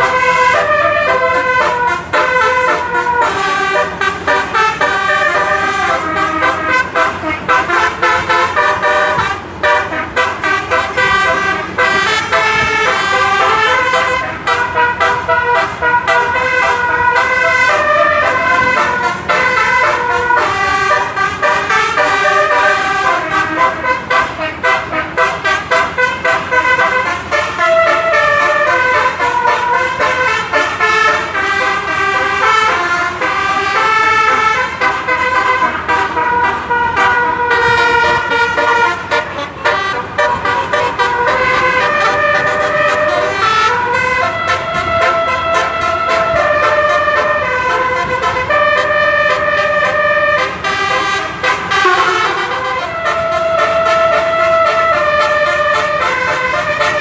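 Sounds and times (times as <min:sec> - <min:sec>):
bus air horn playing a tune: 0:00.0 - 0:57.0.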